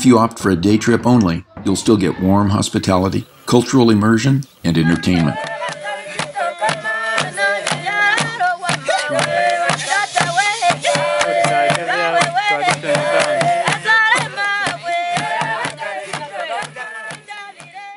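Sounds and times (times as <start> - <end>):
voices singing: 0.0 - 17.9
sharp percussive beat: 0.9 - 3.8, 4.8 - 17.9.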